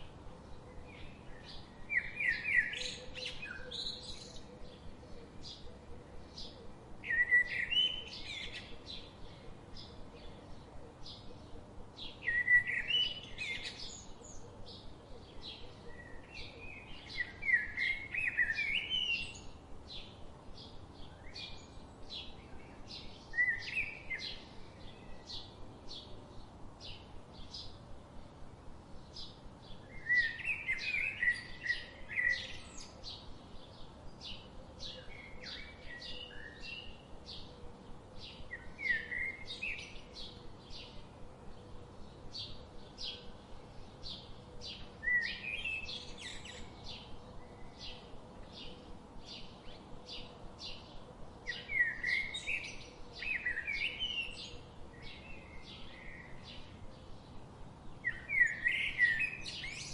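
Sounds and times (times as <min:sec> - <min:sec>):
bird warbling song: 0:00.0 - 0:27.8, 0:29.0 - 0:59.9.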